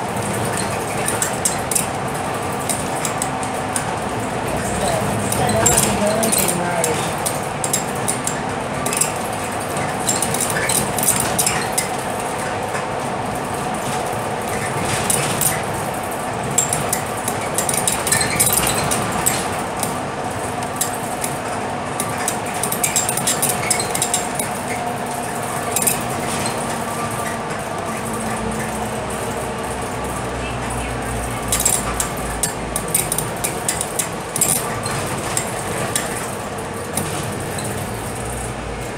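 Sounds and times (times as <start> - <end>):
bus engine and road noise: 0.0 - 38.9
light rattles and clinks: 0.0 - 38.9.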